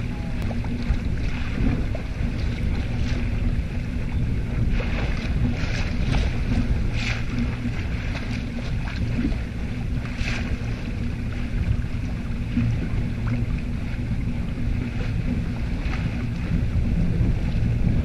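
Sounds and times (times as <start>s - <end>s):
water rushing along a hull: 0.0s - 18.0s
water splashes: 0.0s - 18.0s
wind buffeting microphone: 0.0s - 18.0s.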